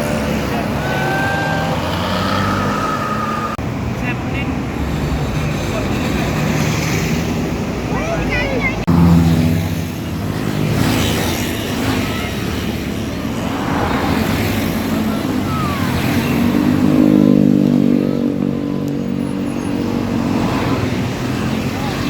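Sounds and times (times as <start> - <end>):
bus engine drone: 0.0 - 22.0
passing road traffic: 0.0 - 22.0.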